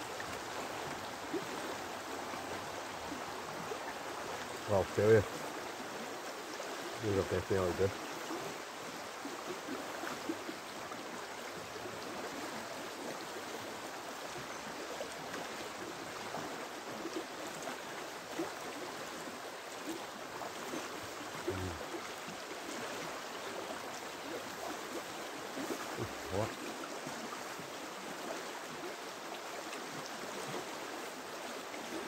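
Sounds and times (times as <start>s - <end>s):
river running over stones: 0.0s - 32.0s.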